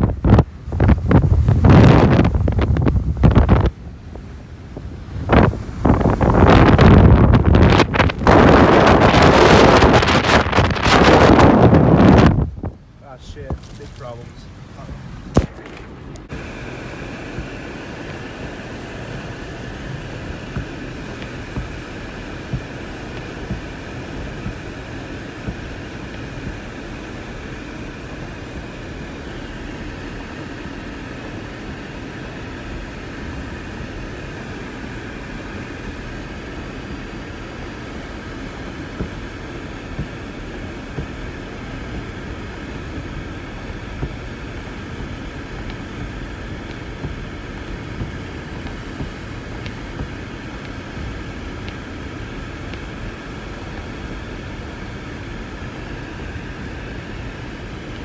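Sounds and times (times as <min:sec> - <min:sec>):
blizzard wind blowing hard: 0:00.0 - 0:58.0.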